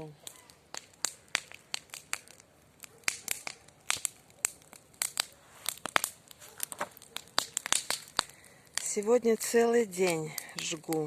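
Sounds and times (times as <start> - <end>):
bonfire crackling and popping: 0.0 - 11.0.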